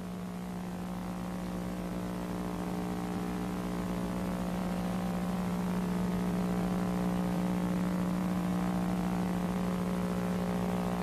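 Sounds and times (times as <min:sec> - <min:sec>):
electrical hum: 0:00.0 - 0:11.0
faint hiss: 0:00.0 - 0:11.0.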